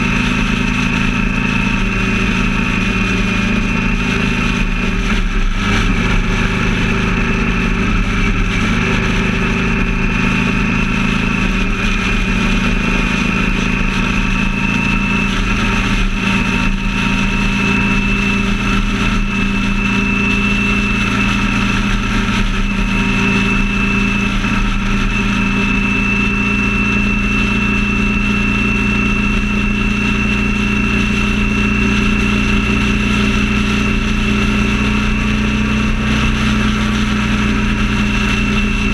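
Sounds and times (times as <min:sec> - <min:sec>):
road and wind noise: 0:00.0 - 0:38.9
vehicle engine cruising: 0:00.0 - 0:38.9.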